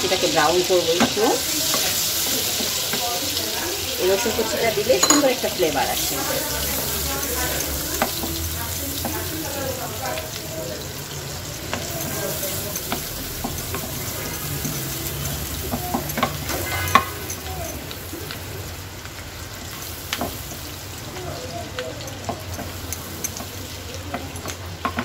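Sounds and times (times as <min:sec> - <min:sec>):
garlic sizzling in a pan: 0:00.0 - 0:25.0.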